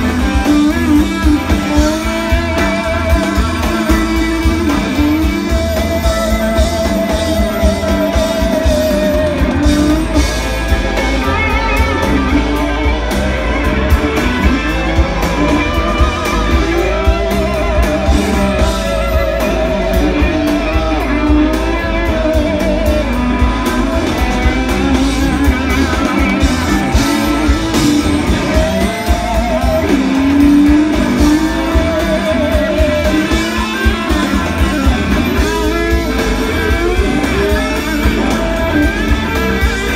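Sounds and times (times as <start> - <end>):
electric guitar lead: 0.0 - 39.9
live rock band: 0.0 - 39.9.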